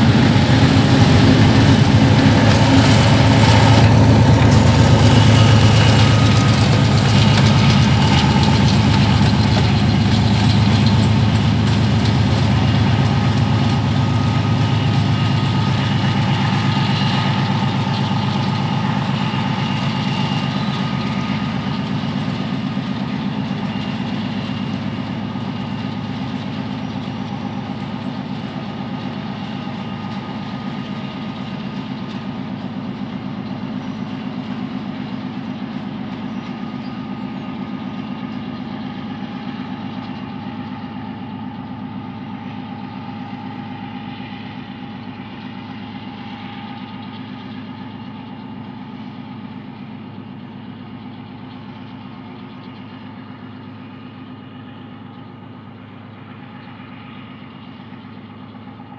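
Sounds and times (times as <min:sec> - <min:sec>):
diesel locomotive engine drone: 0:00.0 - 0:58.9
steady higher whine: 0:00.0 - 0:58.9.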